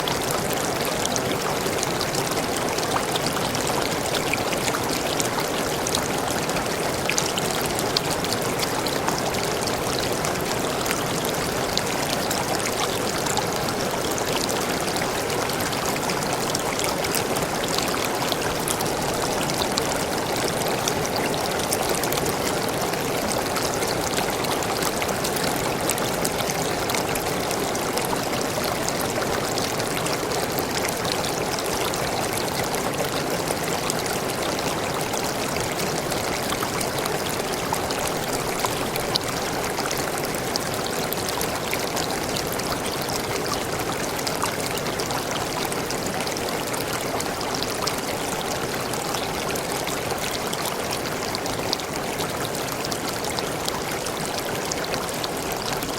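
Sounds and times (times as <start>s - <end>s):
waterfall pouring and splashing: 0.0s - 55.9s.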